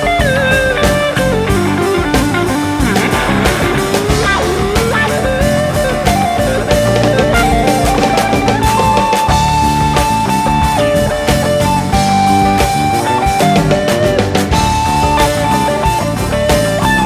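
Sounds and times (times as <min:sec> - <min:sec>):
drum kit: 0:00.0 - 0:17.0
electric guitar lead line: 0:00.0 - 0:17.0
rock band playing: 0:00.0 - 0:17.0.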